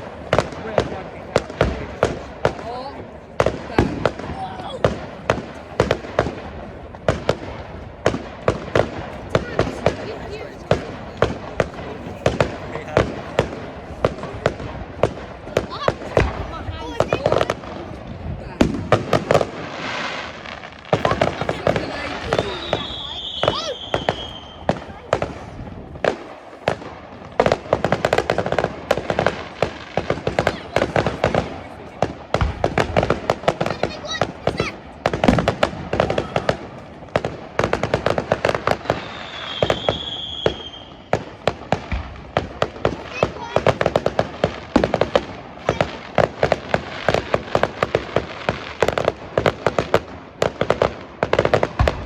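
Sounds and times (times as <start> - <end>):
fireworks bangs: 0.0 - 52.0
fireworks cracking and popping: 0.0 - 52.0.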